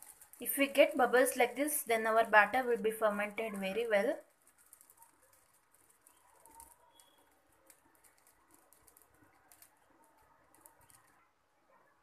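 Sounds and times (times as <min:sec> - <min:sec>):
batter crackling on hot iron: 0:00.0 - 0:11.4.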